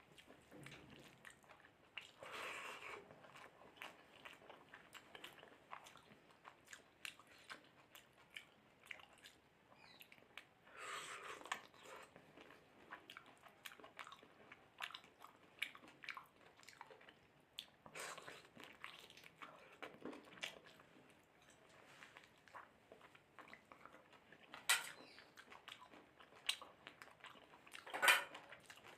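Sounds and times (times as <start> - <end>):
wet chewing: 0.0 - 28.9.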